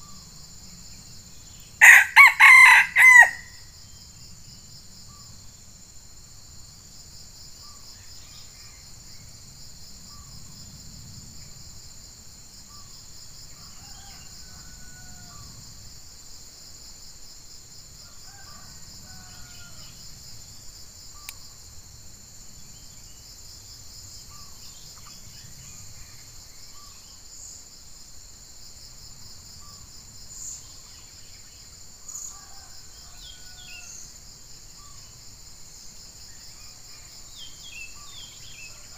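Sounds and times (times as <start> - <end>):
pulsing insect chorus: 0.0 - 38.9.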